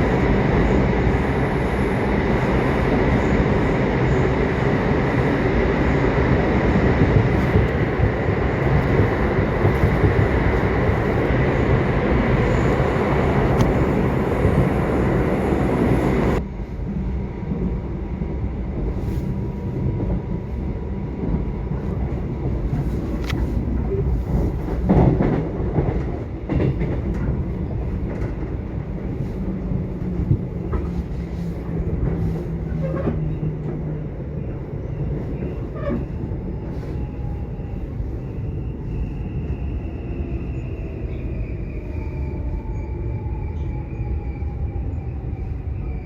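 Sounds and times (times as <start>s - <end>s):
subway train rumbling: 0.0s - 46.0s.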